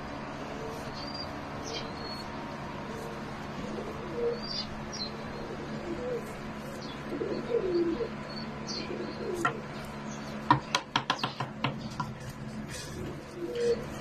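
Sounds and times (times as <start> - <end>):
pigeon cooing: 0.4 - 10.4, 11.5 - 14.0.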